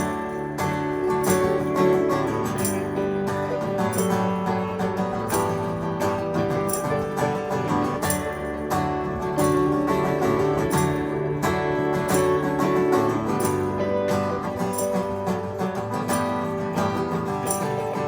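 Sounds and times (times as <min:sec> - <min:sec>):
electric slide guitar: 0:00.0 - 0:18.0
light percussion: 0:00.0 - 0:18.0
strummed acoustic guitar: 0:00.0 - 0:18.0.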